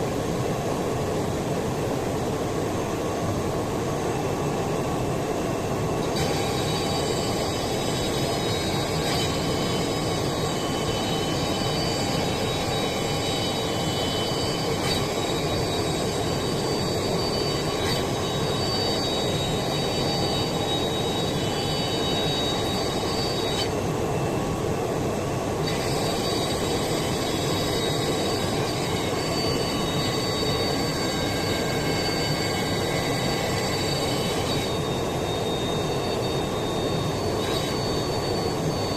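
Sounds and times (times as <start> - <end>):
cnc router spindles whining: 0.0 - 38.9
continuous rushing noise: 0.0 - 38.9.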